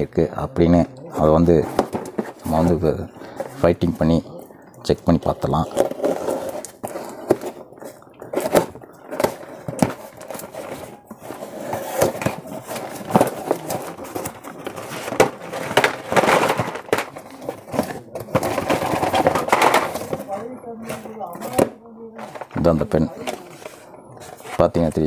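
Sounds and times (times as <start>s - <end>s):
plastic packs rustling and knocking: 0.0s - 25.0s.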